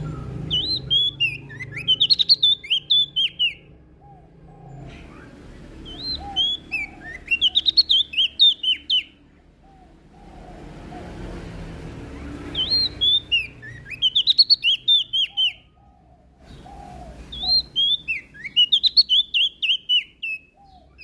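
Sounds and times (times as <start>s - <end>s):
songbird twittering: 0.0s - 11.2s, 11.9s - 21.0s.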